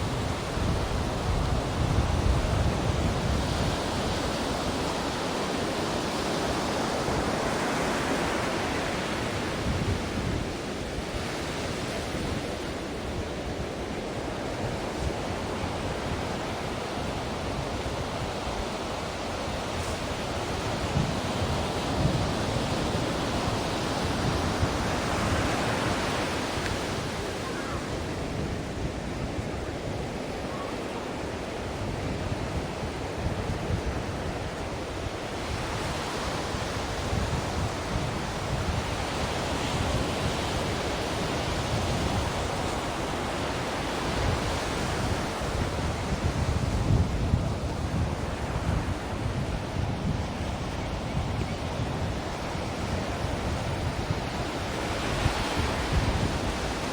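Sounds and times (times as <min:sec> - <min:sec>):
ocean waves breaking: 0:00.0 - 0:56.9.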